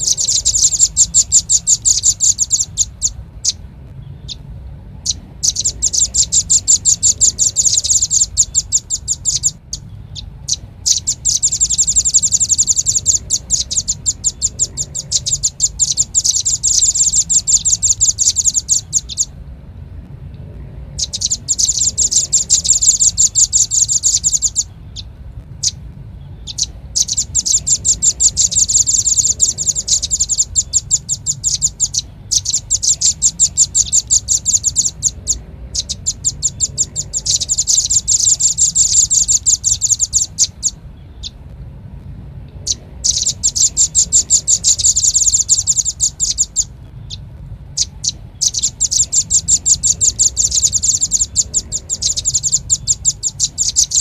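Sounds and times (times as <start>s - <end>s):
nuthatch trilling calls: 0.0s - 19.4s, 20.9s - 41.4s, 42.6s - 54.0s
low hum: 0.0s - 54.0s.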